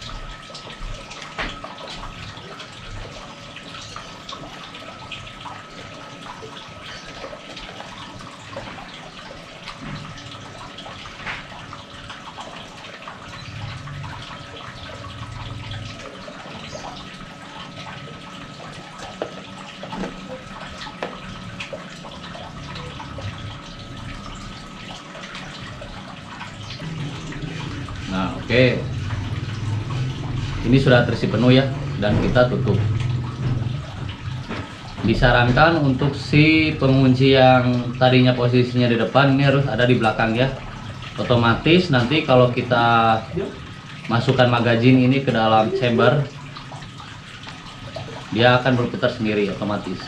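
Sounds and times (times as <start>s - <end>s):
faint high hum: 0.0s - 50.0s.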